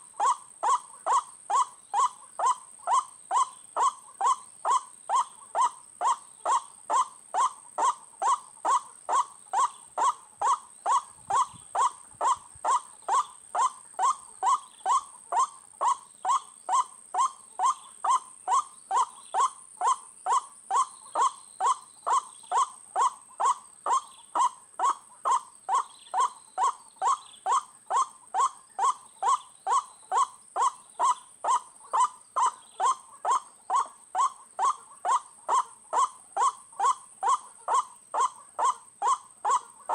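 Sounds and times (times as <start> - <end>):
bird harsh kwak call: 0.2 - 39.9.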